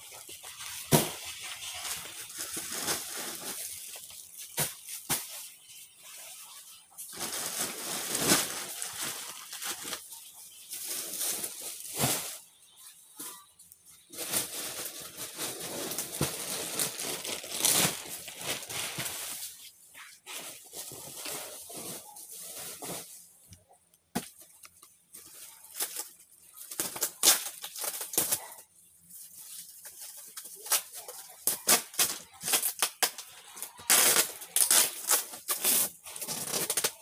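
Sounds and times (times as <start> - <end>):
plastic and sacks rustling: 0.0 - 23.5, 24.2 - 37.0.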